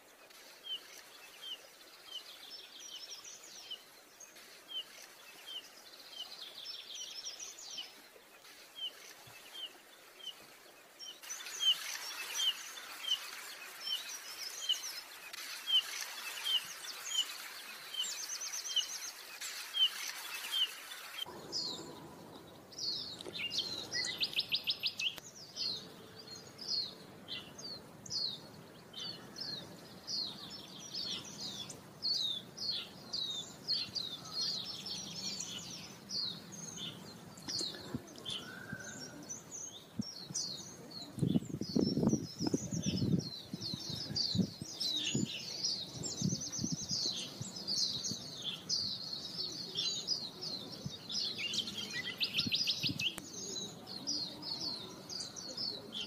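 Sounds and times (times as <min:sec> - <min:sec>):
bird chirping: 0:00.0 - 0:56.0
whistled birdsong: 0:00.0 - 0:56.0.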